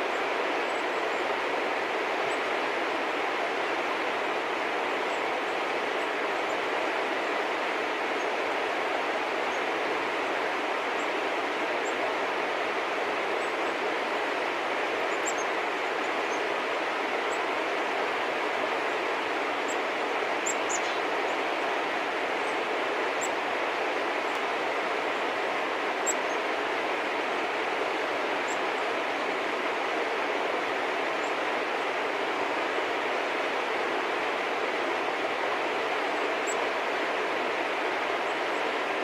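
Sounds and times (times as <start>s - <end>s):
steady rushing background noise: 0.0s - 39.0s.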